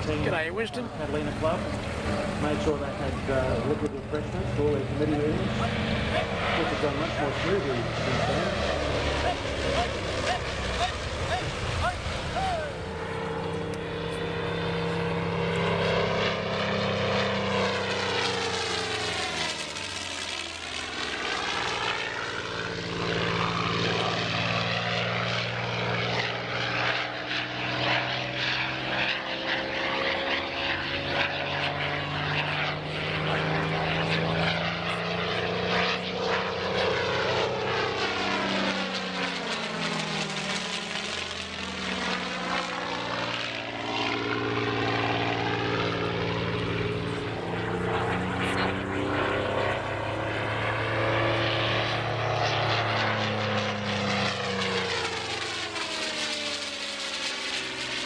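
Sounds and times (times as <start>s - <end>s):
propeller aircraft flying past: 0.0s - 58.0s.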